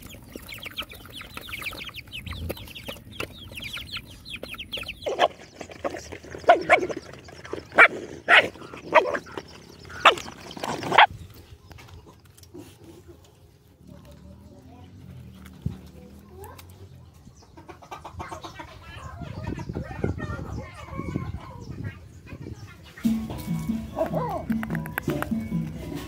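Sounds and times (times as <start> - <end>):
chickens clucking and squawking: 0.0 - 26.0
chicks peeping: 0.0 - 26.0.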